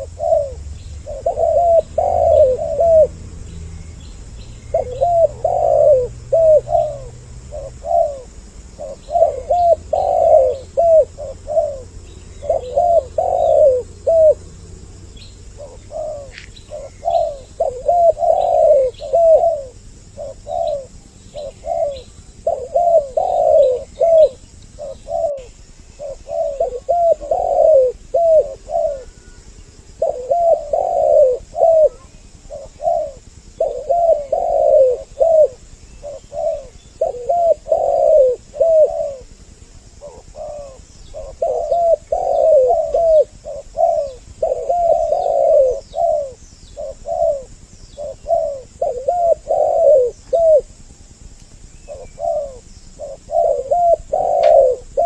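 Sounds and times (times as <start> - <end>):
doves cooing: 0.0 - 55.0
small bird chirping: 0.0 - 55.0.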